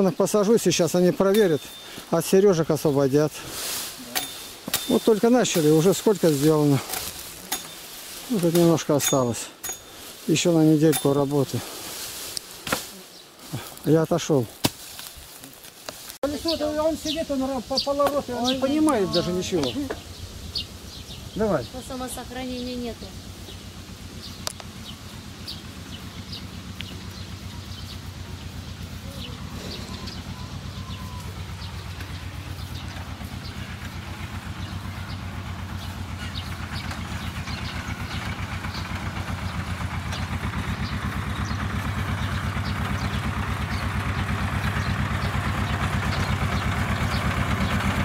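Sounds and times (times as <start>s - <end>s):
diesel tractor engine running: 0.0s - 11.8s, 16.2s - 48.0s.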